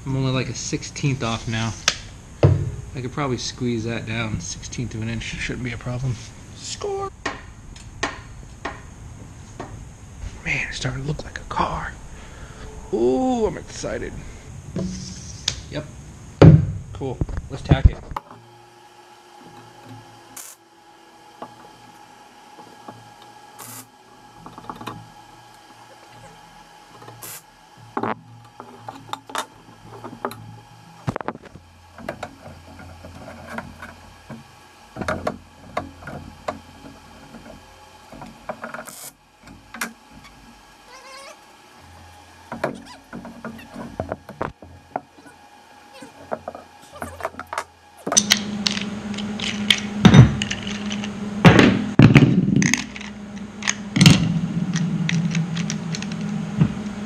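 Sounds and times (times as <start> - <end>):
faint steady hum: 0.0 - 57.0
low hum: 0.0 - 57.0.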